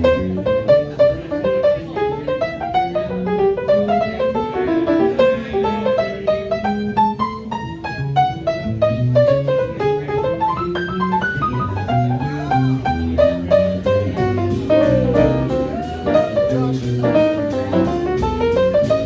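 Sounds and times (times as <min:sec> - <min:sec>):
jazz combo playing: 0:00.0 - 0:19.0
piano notes: 0:00.0 - 0:19.0.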